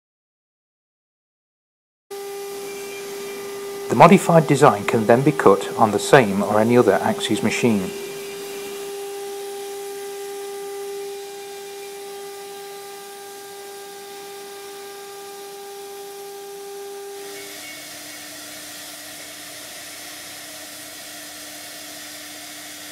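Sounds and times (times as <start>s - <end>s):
router spindle whine: 2.1s - 22.9s
carving hiss: 2.4s - 22.9s.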